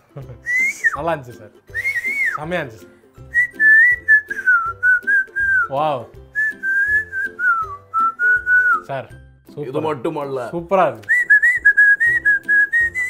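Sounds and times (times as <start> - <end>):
whistled melody over a beat: 0.2 - 9.3, 11.0 - 13.0.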